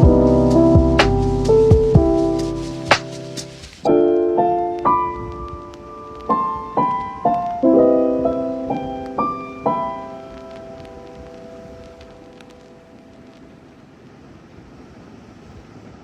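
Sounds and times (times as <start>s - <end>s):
soft piano chords: 0.0s - 13.7s.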